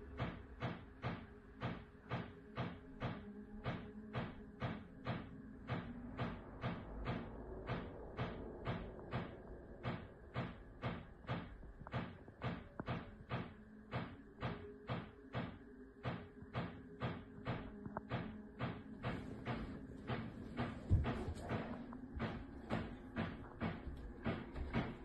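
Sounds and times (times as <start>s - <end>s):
banging knocks: 0.1s - 25.0s.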